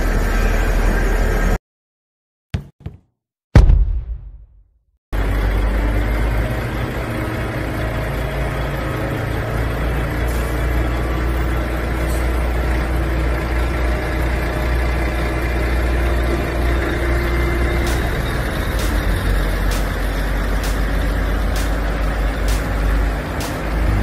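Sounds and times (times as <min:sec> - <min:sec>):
diesel engine running: 0:00.0 - 0:01.6, 0:05.2 - 0:24.0.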